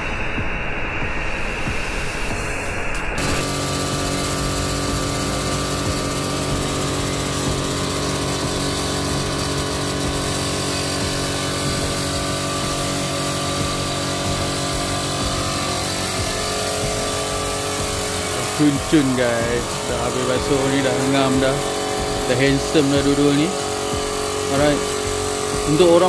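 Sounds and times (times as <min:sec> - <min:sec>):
motor droning steadily: 0:00.0 - 0:26.0.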